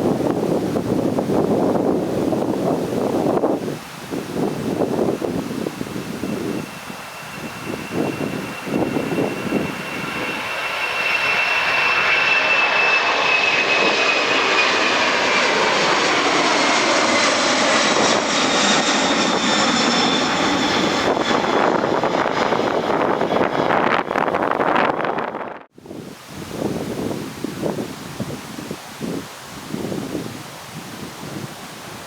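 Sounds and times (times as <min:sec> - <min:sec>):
high falling jet whine: 0:00.0 - 0:29.1
jet engine roar: 0:00.0 - 0:32.0.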